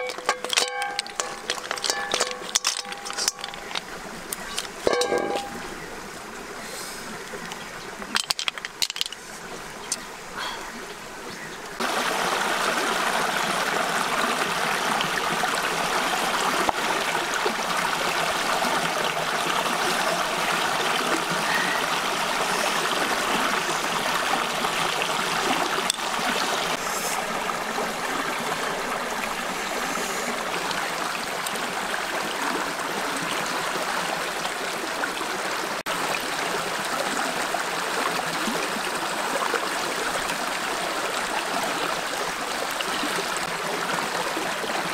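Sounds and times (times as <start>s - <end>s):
stream water running over rocks: 0.0s - 44.9s.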